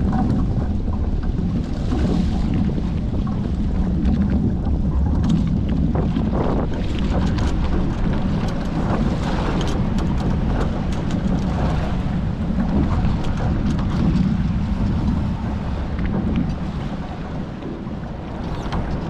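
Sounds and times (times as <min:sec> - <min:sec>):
water rushing past hulls: 0:00.0 - 0:19.0
wind buffeting microphone: 0:00.0 - 0:19.0.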